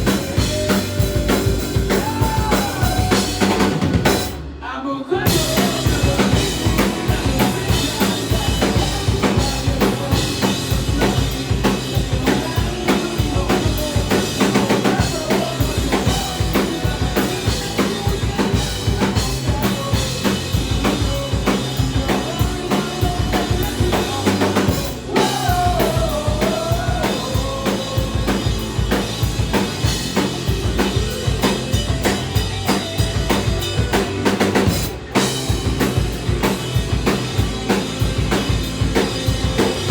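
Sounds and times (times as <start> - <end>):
bass guitar: 0.0 - 39.9
drums: 0.0 - 39.9
electric guitar: 5.2 - 39.9.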